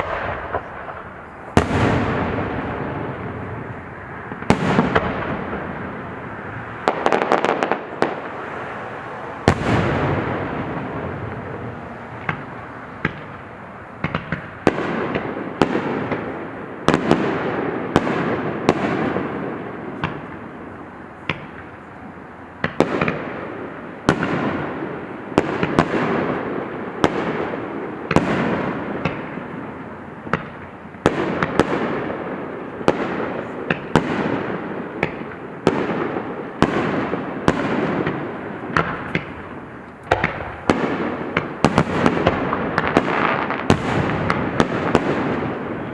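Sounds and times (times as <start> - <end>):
fireworks banging with echo: 0.0 - 45.9
fireworks crackling: 0.0 - 45.9.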